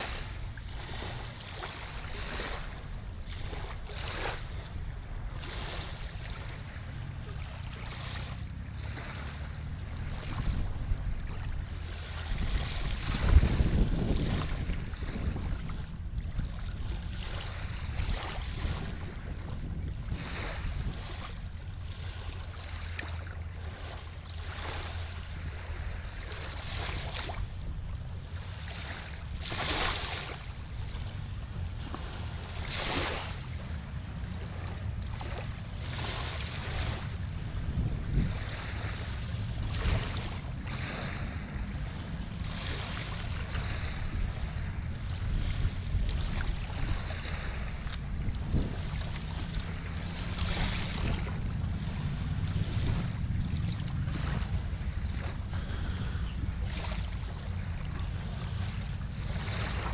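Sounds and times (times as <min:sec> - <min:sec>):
small waves lapping: 0:00.0 - 0:59.9
wind rumble on microphone: 0:00.0 - 0:59.9.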